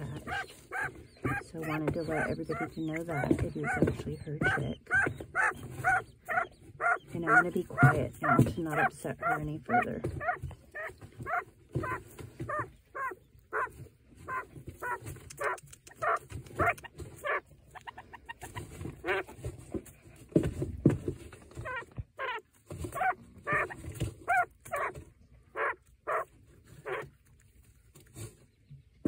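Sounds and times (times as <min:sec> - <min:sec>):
quail hen grumbling: 0:00.0 - 0:19.8, 0:21.5 - 0:27.2.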